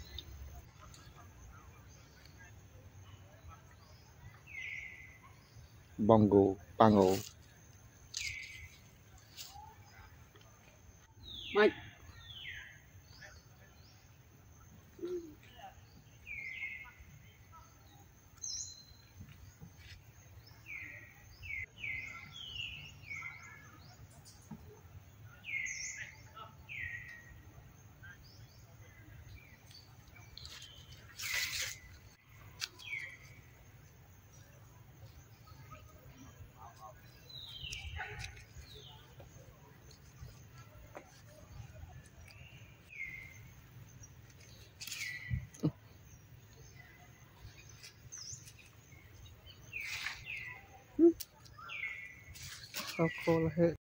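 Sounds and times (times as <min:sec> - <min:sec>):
birds calling: 0:00.0 - 0:53.8.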